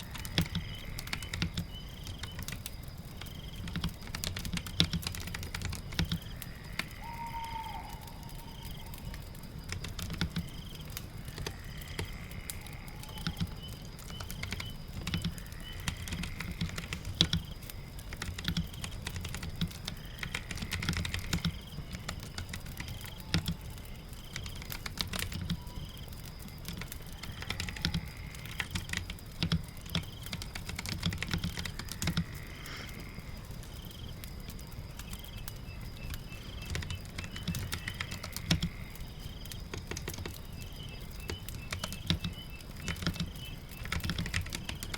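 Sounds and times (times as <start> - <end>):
computer keyboard typing: 0.0 - 6.9, 8.5 - 32.4, 36.5 - 40.6, 41.2 - 44.9
rain patter: 0.0 - 44.9.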